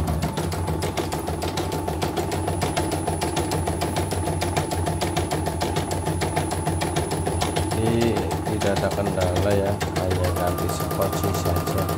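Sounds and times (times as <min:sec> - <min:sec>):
motor hum: 0:00.0 - 0:11.9
embroidery machine needle strikes: 0:00.3 - 0:11.9.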